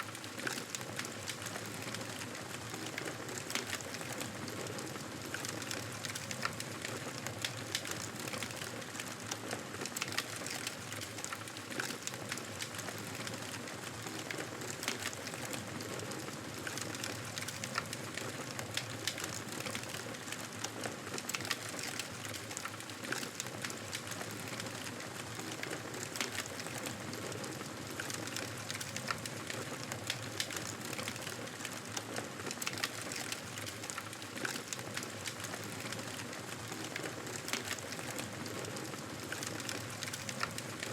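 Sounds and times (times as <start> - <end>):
fire crackles and pops: 0.0 - 40.9
hiss and rustle of flames: 0.1 - 40.9.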